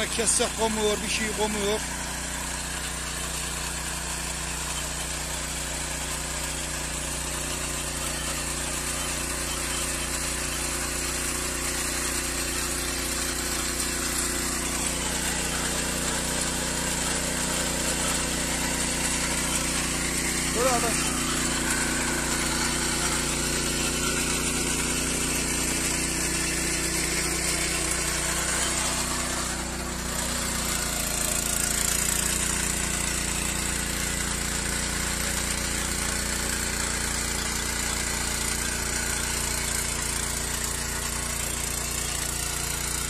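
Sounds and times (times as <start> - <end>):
tiller engine running: 0.0 - 43.0.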